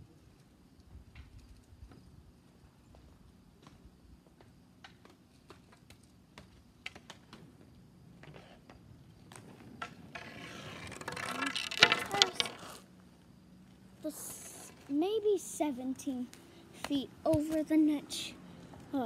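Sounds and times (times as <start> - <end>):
skate wheels rolling on concrete: 0.0 - 19.0.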